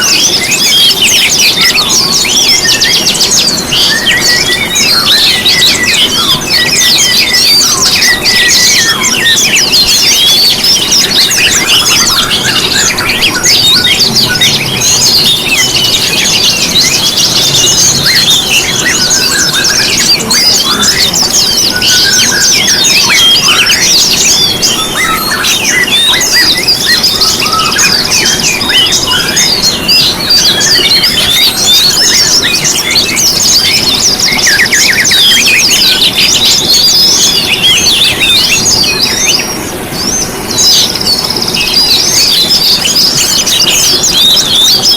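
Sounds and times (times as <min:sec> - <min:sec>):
long high bird trill: 0:00.0 - 0:44.9
songbirds chirping and trilling: 0:00.0 - 0:44.9.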